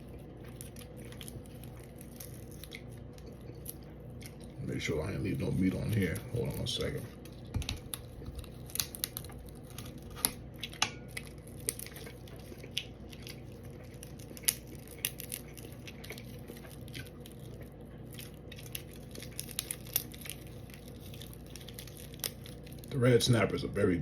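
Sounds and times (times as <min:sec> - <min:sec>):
eating clicks and squishes: 0:00.0 - 0:23.0.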